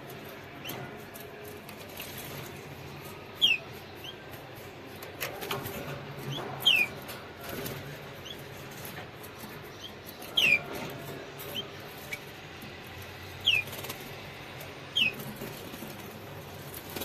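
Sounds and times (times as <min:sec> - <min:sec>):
canary chirping: 0:00.0 - 0:17.0.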